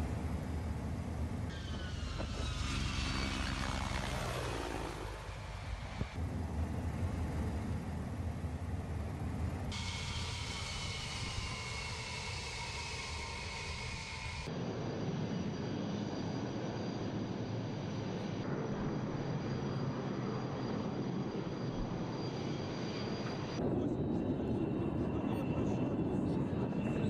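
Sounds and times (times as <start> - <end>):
jet engines rushing and whining: 0.0 - 27.0.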